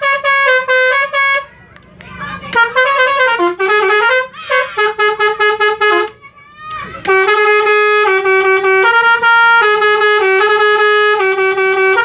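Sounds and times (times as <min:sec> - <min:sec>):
horn playing brassy notes: 0:00.0 - 0:01.5, 0:02.5 - 0:06.2, 0:07.0 - 0:12.0.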